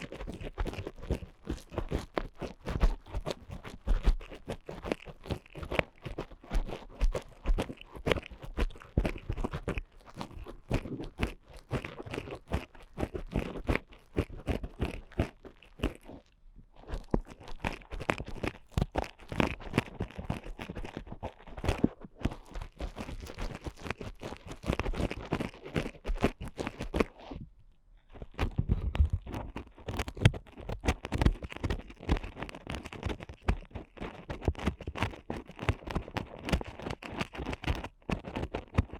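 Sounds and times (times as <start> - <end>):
ear picks scratching microphone: 0.0 - 38.9.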